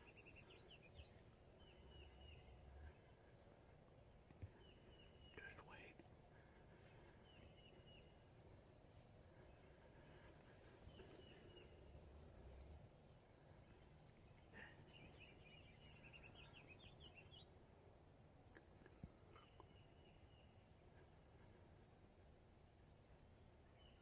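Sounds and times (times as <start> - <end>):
distant small birds calling: 0.0 - 24.0.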